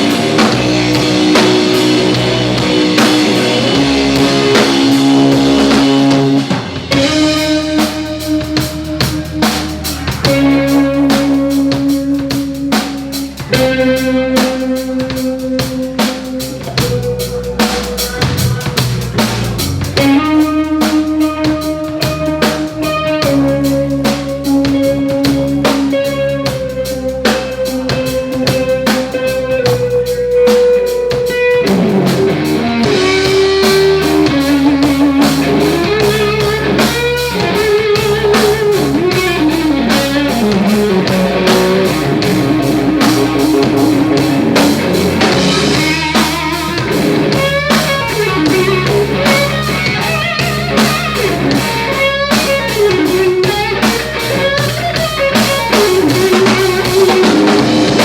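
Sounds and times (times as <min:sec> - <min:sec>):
drum kit beat: 0:00.0 - 0:58.0
electric guitar lead: 0:00.0 - 0:58.0.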